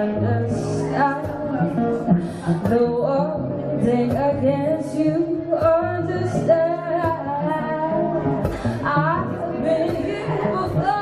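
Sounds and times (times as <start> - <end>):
acoustic guitars: 0.0 - 11.0
woman singing: 0.0 - 11.0.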